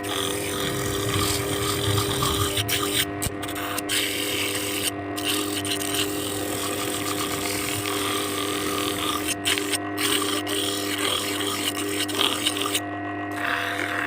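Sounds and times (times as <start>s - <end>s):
sanding machine motor humming: 0.0s - 14.0s.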